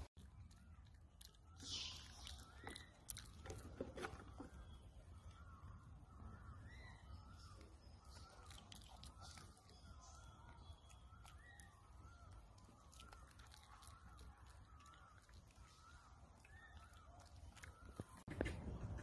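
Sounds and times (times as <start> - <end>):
soft wavering animal calls: 0.5 - 18.3.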